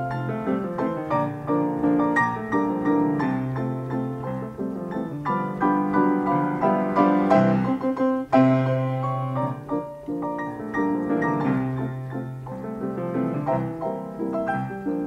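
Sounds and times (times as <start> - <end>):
player piano playing: 0.0 - 15.0.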